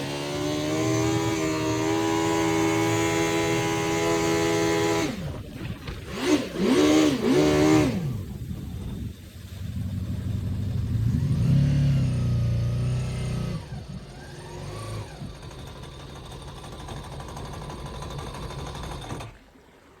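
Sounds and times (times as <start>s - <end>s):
jet ski engine revving: 0.0s - 19.7s.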